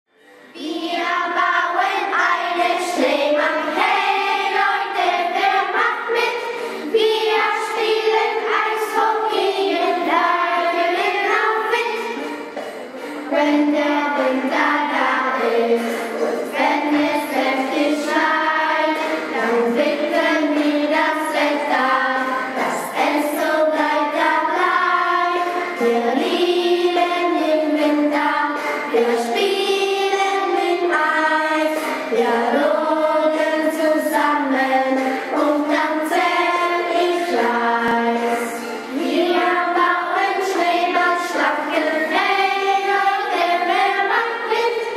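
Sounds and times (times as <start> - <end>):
children singing: 0.4 - 44.9.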